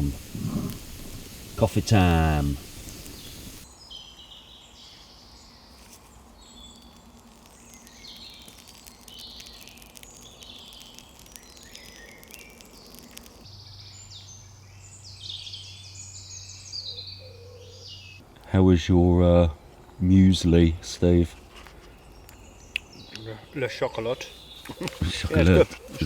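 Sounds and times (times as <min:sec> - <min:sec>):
birds singing and calling: 0:00.0 - 0:18.2, 0:21.6 - 0:26.0.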